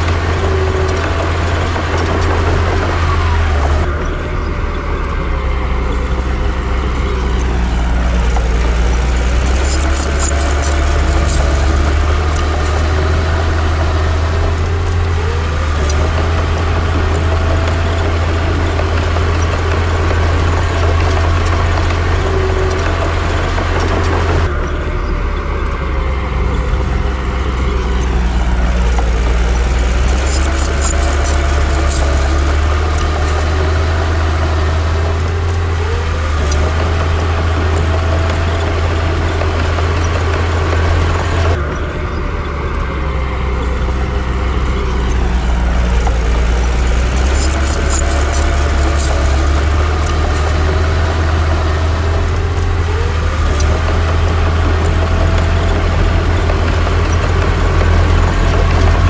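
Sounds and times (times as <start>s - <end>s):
metallic clicking and clatter: 0.0s - 24.8s, 26.5s - 41.8s, 42.6s - 59.0s
bulldozer diesel engine under load: 0.0s - 59.0s.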